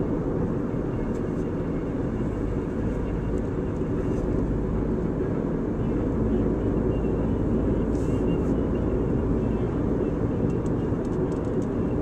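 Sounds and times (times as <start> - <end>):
car engine rumble and tyre noise: 0.0 - 12.0.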